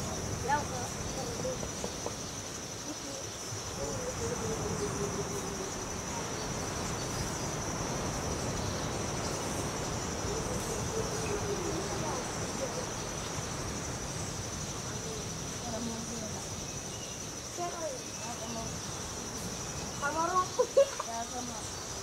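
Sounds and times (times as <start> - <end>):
rushing background noise: 0.0 - 22.0.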